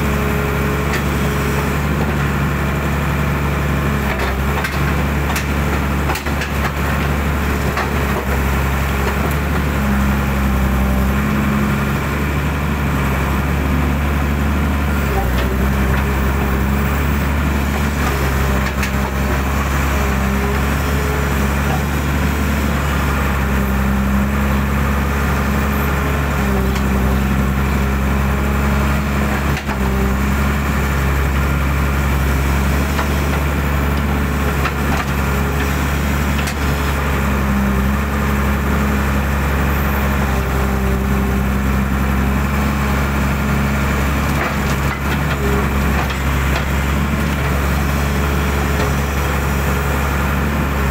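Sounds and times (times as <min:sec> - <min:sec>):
excavator diesel engine drone: 0:00.0 - 0:50.9.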